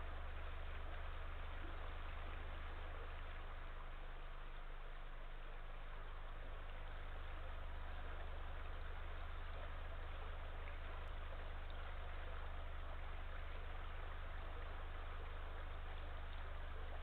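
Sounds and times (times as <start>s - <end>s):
constant low hum: 0.0s - 17.0s.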